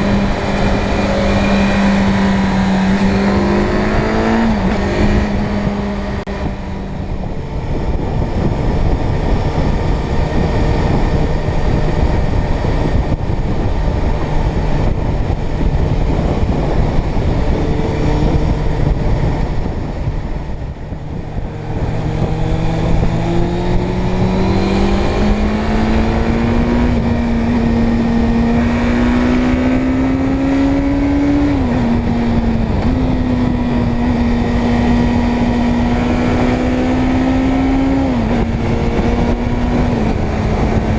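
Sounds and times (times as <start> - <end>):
motorcycle engine: 0.0 - 40.9
wind rush on microphone: 0.0 - 40.9.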